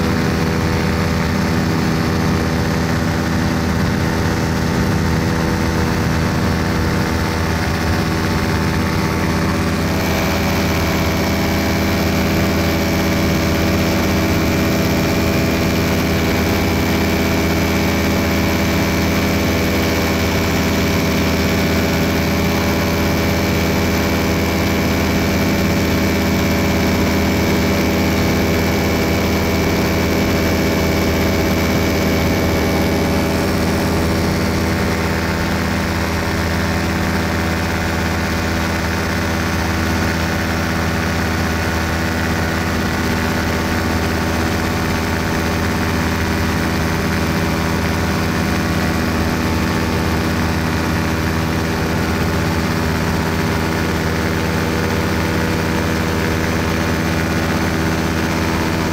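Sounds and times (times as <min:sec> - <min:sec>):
small aircraft engine drone: 0:00.0 - 0:58.9.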